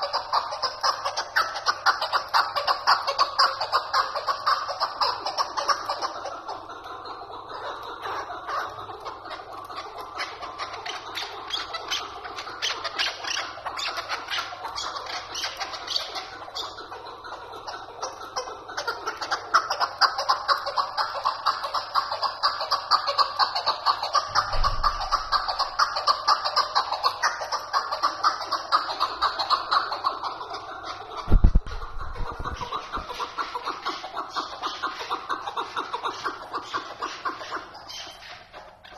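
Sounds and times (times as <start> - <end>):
partridge chattering call: 7.5 - 38.9.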